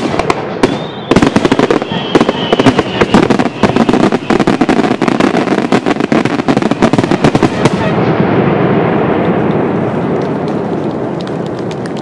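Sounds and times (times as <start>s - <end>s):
fireworks bursts and crackling: 0.0s - 12.0s.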